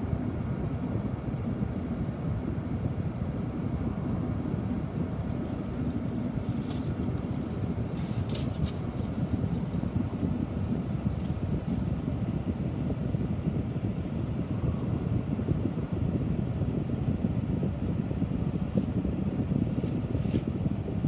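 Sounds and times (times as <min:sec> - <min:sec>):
road noise inside car: 0:00.0 - 0:21.0.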